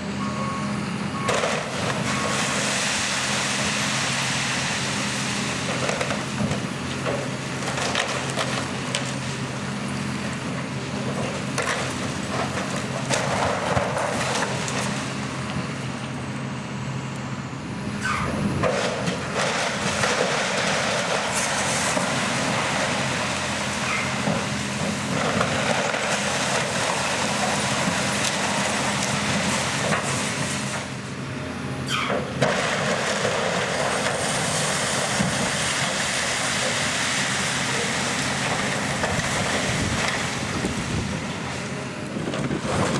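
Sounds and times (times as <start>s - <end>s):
demolition machine engine: 0.0s - 42.9s
structure crunching and cracking: 1.3s - 9.5s, 10.4s - 15.6s, 18.6s - 30.9s, 32.4s - 42.9s.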